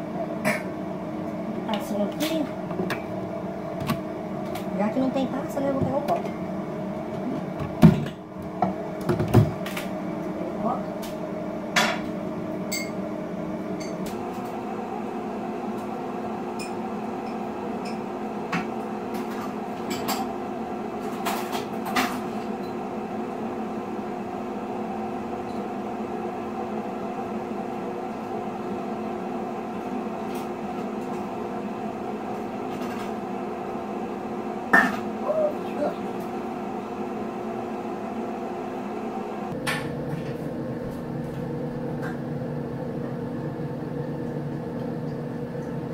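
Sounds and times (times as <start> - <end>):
kitchen appliance humming: 0.0 - 45.9.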